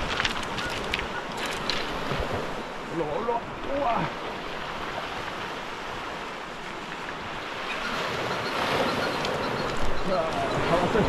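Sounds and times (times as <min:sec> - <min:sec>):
sea water: 0:00.0 - 0:11.0.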